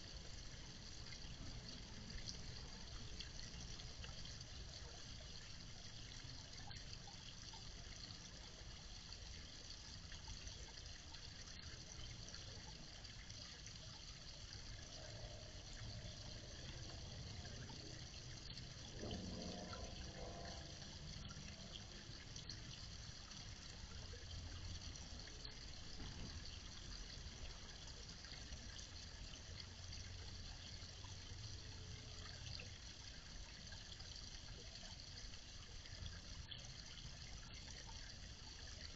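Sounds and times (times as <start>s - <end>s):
pond waterfall trickling: 0.0s - 38.9s.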